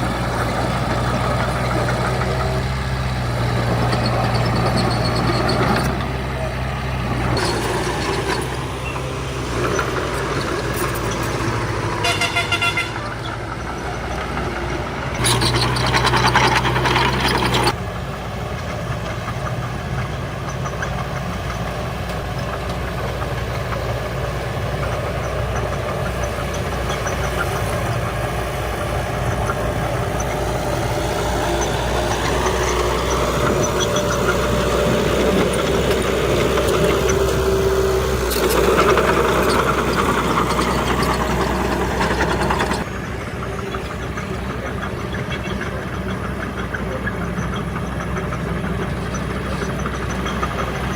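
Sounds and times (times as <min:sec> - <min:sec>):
heavy machinery diesel engine: 0:00.0 - 0:50.9.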